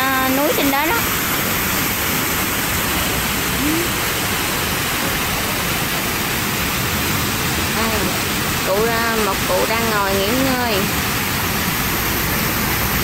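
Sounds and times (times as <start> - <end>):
waterfall splashing into pool: 0.0 - 13.0.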